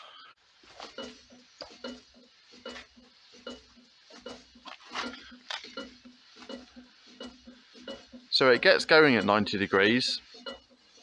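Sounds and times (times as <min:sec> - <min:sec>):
engine mechanism knocking and clinking: 0:01.0 - 0:11.0.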